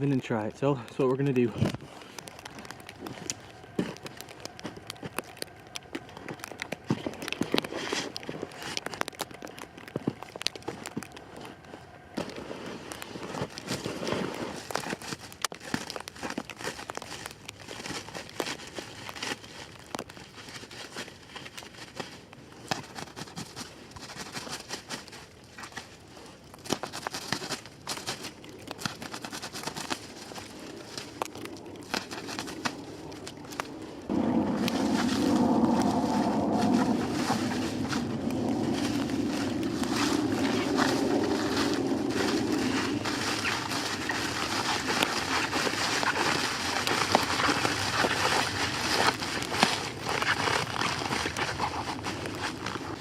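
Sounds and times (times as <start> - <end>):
plastic wrap crinkling: 0.9 - 53.0.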